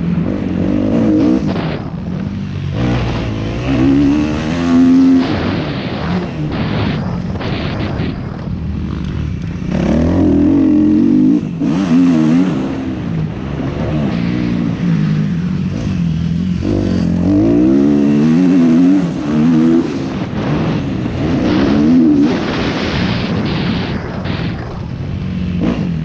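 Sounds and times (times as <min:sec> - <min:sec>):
motocross engine revving: 0:00.0 - 0:24.4
wind rushing over microphone: 0:00.0 - 0:26.0.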